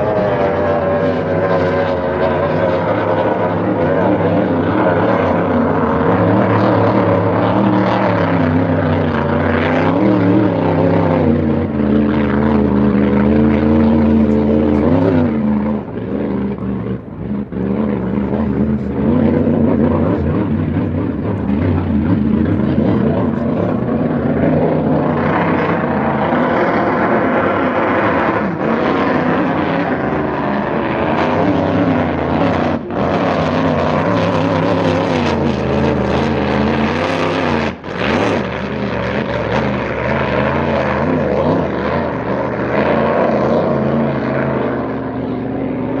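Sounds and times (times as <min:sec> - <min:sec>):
racing boat engine drone: 0:00.0 - 0:46.0.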